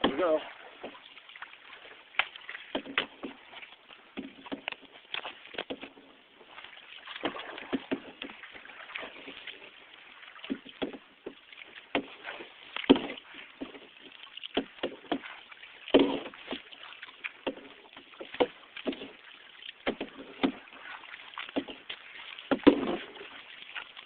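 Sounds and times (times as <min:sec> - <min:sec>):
low wash of water: 0:00.0 - 0:24.0
paddle knocking: 0:00.0 - 0:24.0
paddle strokes splashing: 0:00.0 - 0:24.0.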